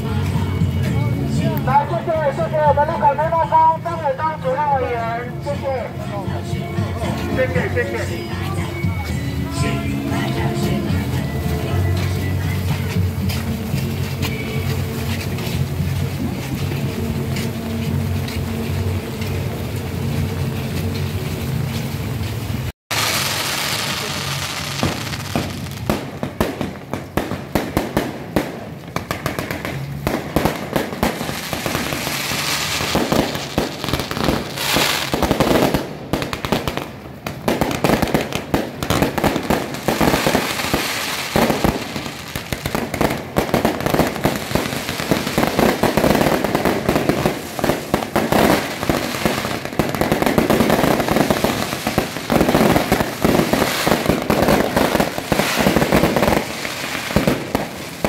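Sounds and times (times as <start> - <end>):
firecrackers and fireworks crackling: 0.0 - 58.0.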